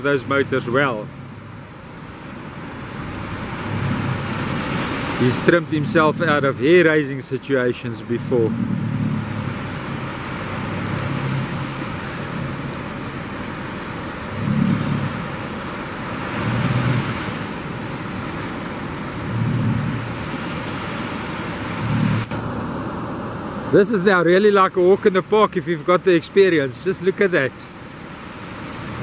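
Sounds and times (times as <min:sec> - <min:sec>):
outboard motors revving: 0:00.0 - 0:29.0
surf washing: 0:00.0 - 0:29.0.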